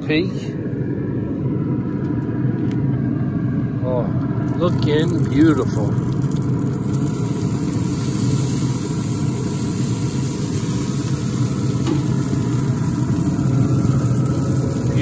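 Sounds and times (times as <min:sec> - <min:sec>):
grill fan humming and whooshing: 0:00.0 - 0:15.0.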